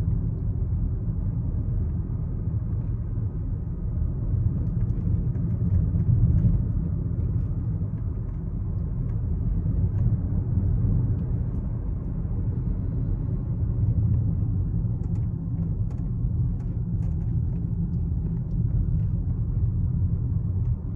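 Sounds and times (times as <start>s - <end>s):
car engine rumble: 0.0s - 20.9s.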